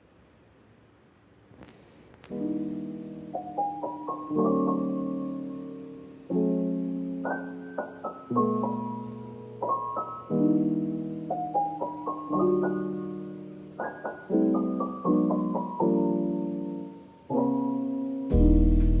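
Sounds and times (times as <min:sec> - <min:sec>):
slow gentle piano chords: 0:01.8 - 0:19.0.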